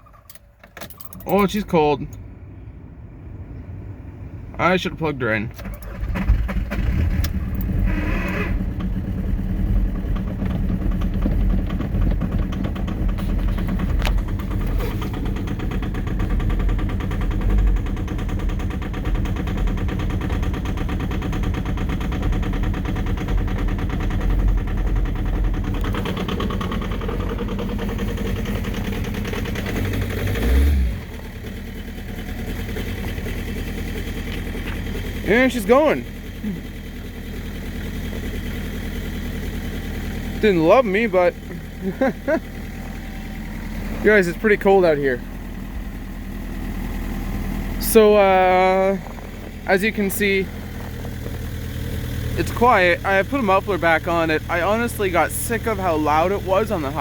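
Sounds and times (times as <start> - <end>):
diesel engine idling: 0.0 - 57.0
diesel engine cold start: 4.2 - 57.0.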